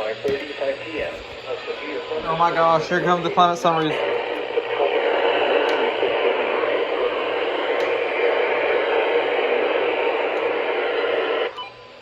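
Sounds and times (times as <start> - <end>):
radio static hiss: 0.0 - 11.6.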